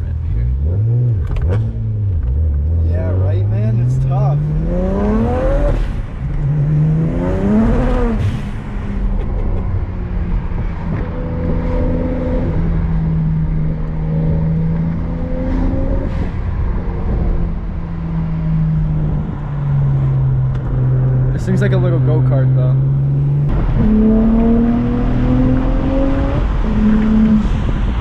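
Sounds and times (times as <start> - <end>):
car engine droning: 0.0 - 28.0
road rumble: 0.0 - 28.0.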